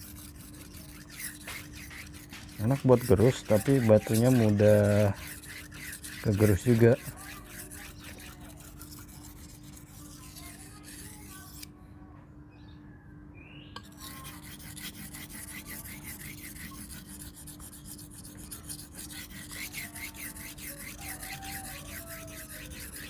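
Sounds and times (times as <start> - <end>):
knife scraping on whetstone: 0.0 - 11.7, 13.8 - 23.0.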